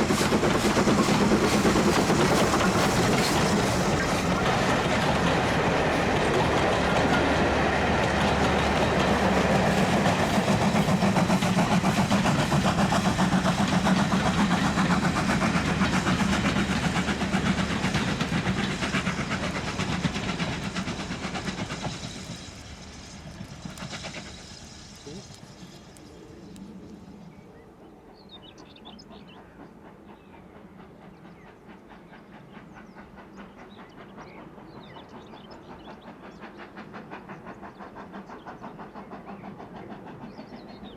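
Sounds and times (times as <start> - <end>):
steam locomotive running by: 0.0 - 40.9.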